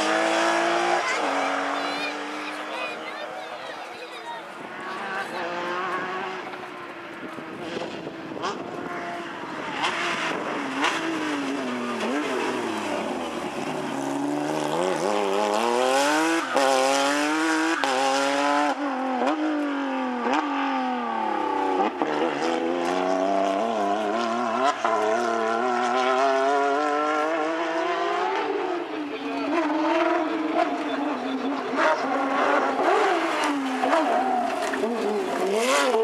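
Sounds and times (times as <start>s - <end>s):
rally car engine revving through shifts: 0.0s - 3.7s, 4.5s - 36.0s.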